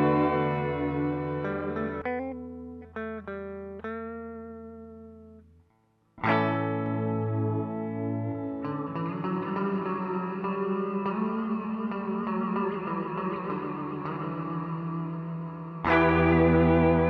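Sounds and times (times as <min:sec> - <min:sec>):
electric guitar chords with reverb: 0:00.0 - 0:05.6, 0:06.2 - 0:17.0
picked guitar notes: 0:00.0 - 0:17.0.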